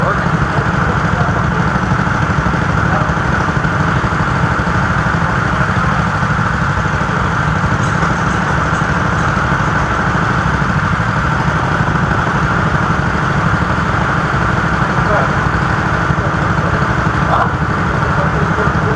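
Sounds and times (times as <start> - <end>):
go-kart engine running: 0.0 - 18.9.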